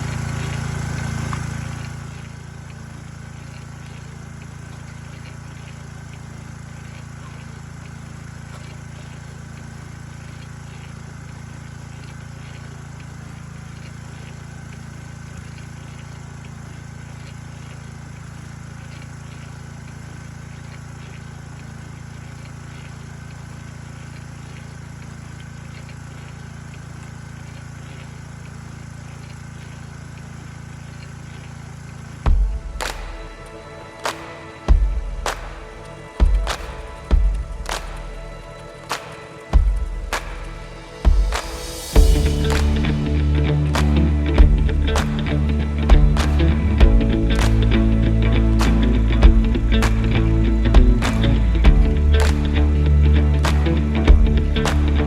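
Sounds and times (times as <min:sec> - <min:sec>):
small motor humming: 0:00.0 - 0:55.0.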